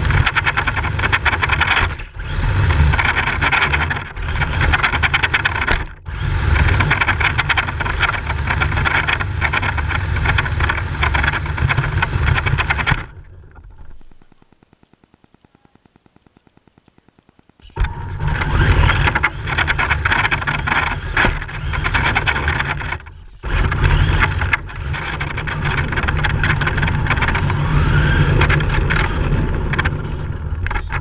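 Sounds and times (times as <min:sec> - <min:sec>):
rc car motor whine: 0:00.0 - 0:13.1, 0:17.6 - 0:31.0
crackling tyre noise: 0:00.0 - 0:31.0.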